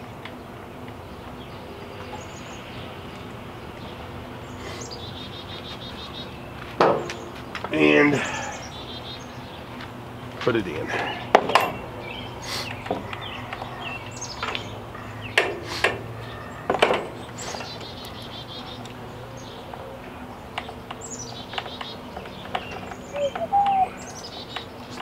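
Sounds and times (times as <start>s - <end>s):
small birds chirping: 0.3s - 25.0s.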